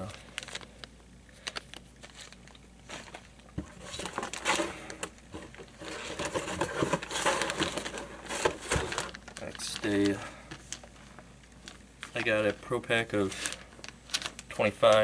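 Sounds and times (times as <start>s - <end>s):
plastic bags rustling and crinkling: 0.0s - 15.0s.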